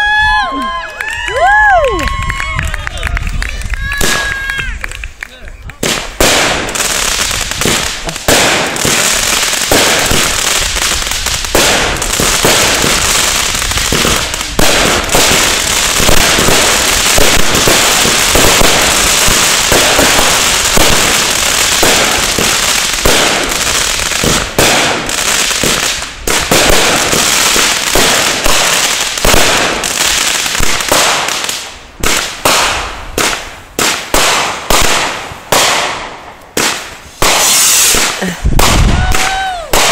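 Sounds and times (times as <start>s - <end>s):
fireworks popping and banging: 2.1s - 39.9s.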